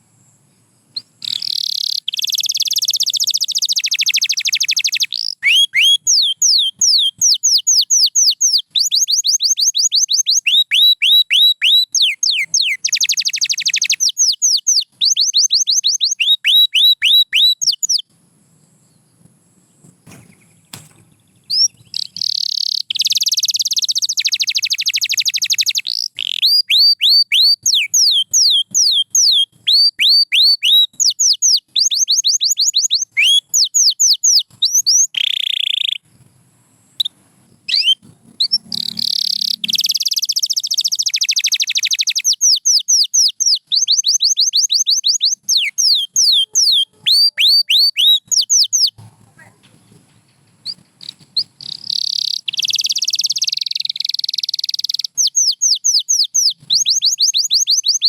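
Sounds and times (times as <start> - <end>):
canary singing: 0.9 - 18.1, 18.9 - 36.1, 37.0 - 58.0.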